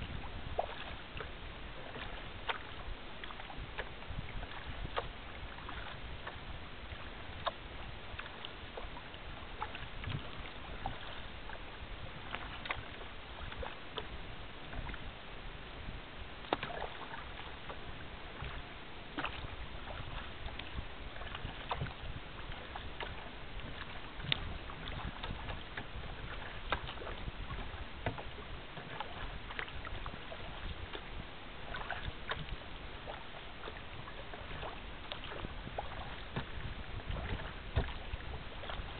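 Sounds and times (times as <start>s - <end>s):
water splashing around kayak: 0.0s - 38.9s.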